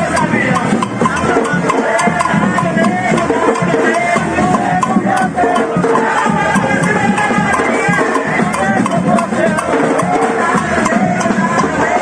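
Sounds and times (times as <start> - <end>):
drums and hand percussion: 0.0 - 12.0
people singing: 0.0 - 12.0.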